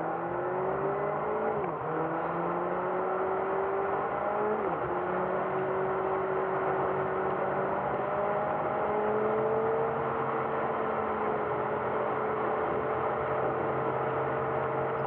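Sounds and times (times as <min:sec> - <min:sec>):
engine and tyre noise: 0:00.0 - 0:15.0.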